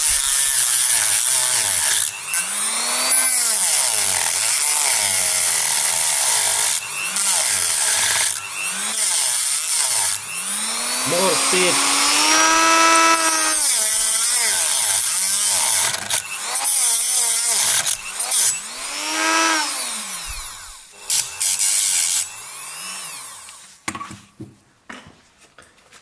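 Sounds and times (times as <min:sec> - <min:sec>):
rotary tool grinding metal: 0:00.0 - 0:23.8.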